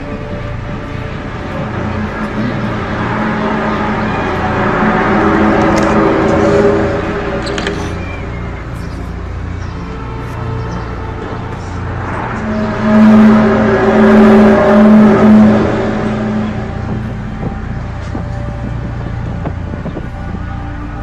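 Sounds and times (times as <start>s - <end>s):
loud trumpet-like droning tone: 0.0s - 21.0s
steady low hum: 0.0s - 21.0s.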